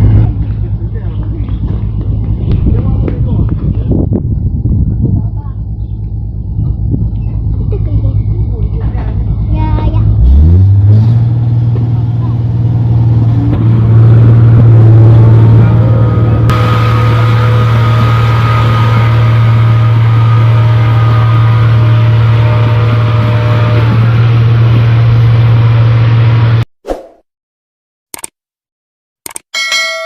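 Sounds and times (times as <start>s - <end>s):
combine harvester diesel engine drone: 0.0s - 26.6s.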